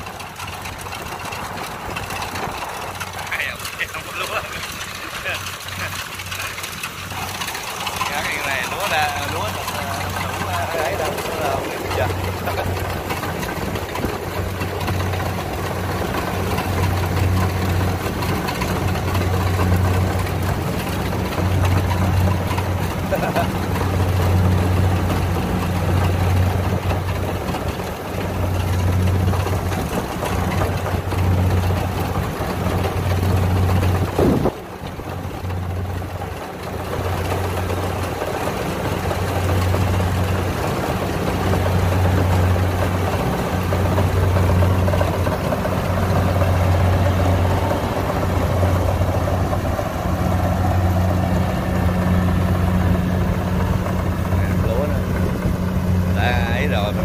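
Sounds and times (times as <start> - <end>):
combine harvester engine running: 0.0 - 57.0.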